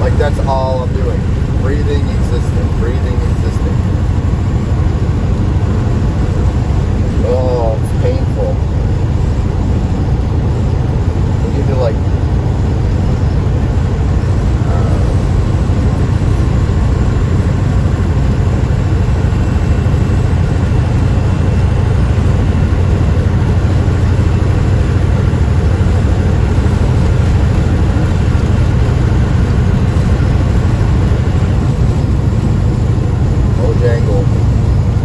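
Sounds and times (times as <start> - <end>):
road noise: 0.0 - 35.0
truck engine drone: 0.0 - 35.0.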